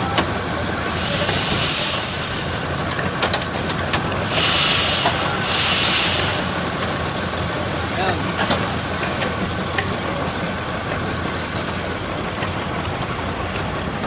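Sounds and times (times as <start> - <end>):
steam tractor low rumble: 0.0 - 14.0
steam hissing: 0.3 - 11.9.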